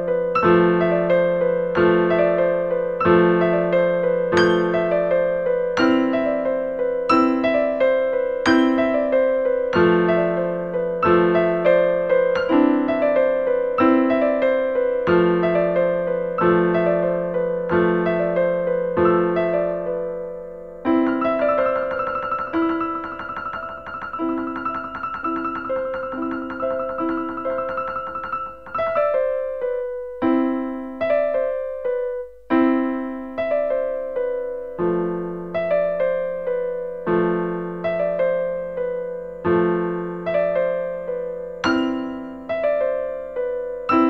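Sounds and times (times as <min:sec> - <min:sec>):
solo piano playing chords: 0:00.0 - 0:44.0.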